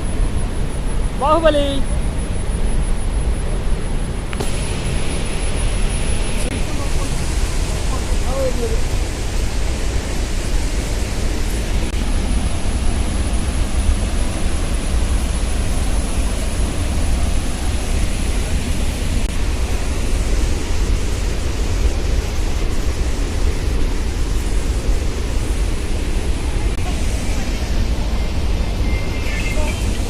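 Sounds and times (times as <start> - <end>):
waterfall roaring: 3.9 - 30.0.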